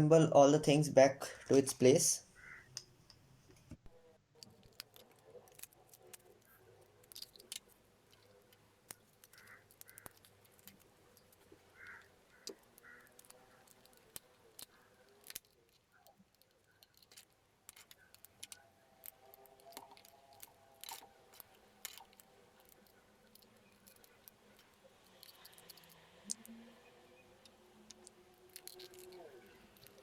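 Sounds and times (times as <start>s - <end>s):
plastic parts clicking and tapping: 4.4s - 26.5s, 27.2s - 30.0s.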